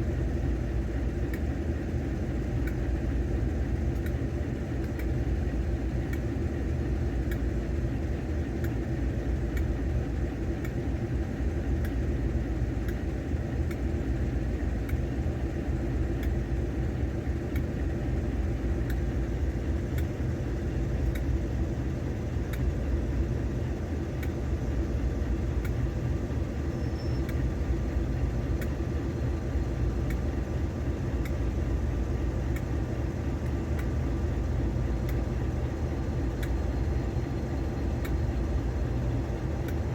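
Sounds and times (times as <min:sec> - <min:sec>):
diesel locomotive engine rumbling: 0:00.0 - 0:39.9.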